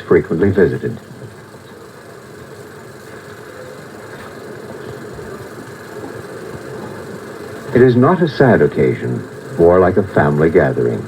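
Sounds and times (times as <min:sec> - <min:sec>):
rumbling background noise: 0:00.0 - 0:11.0.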